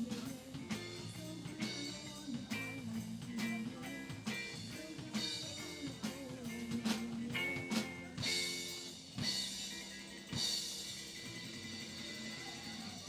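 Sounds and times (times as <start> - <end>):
drum kit hits and rimshots: 0.0 - 13.0.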